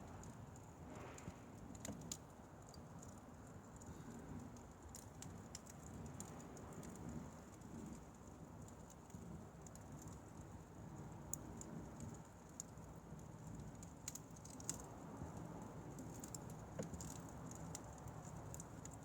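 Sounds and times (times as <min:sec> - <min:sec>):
firewood fire crackling: 0:00.0 - 0:19.0
low rumble of flame: 0:00.0 - 0:19.0.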